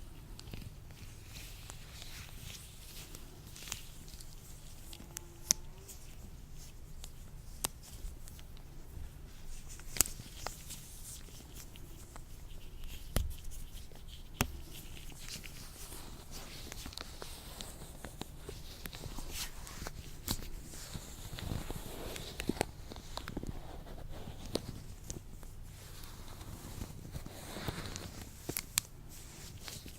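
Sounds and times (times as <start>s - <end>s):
latex gloves rustling: 0.0s - 29.9s.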